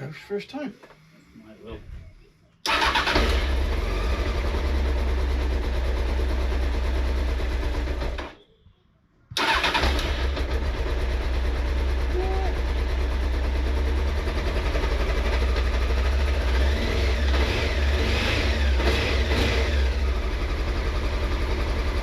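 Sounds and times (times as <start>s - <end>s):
motorcycle engine starting and running: 2.6s - 8.4s, 9.4s - 22.0s.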